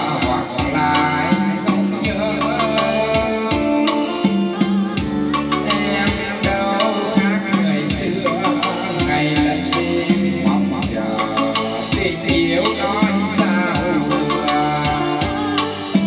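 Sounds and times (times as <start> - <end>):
music through loudspeakers: 0.0 - 16.0.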